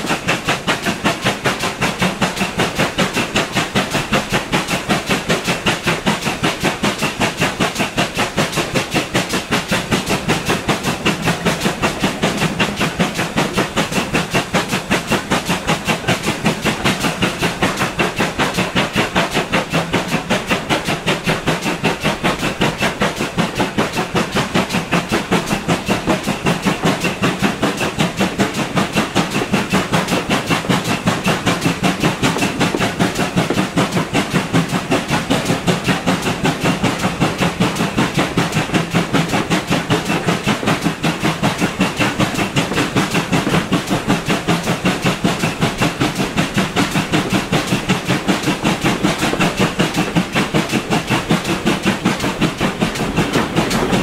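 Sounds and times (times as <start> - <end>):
steam locomotive exhaust beats: 0.0 - 54.0
train wheels clattering on rails: 0.0 - 54.0.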